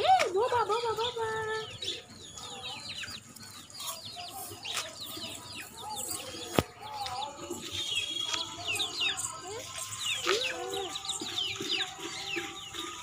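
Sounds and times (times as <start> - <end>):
chicks peeping and clucking: 0.0 - 13.0.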